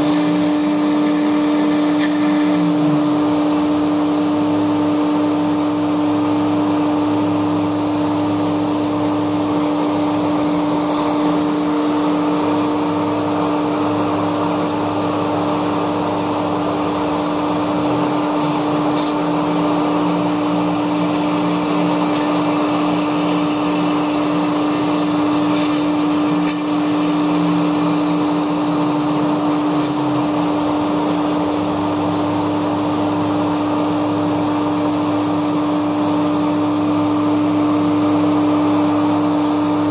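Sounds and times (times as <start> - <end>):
machine motor hum: 0.0 - 39.9
router spindle whining: 0.0 - 39.9.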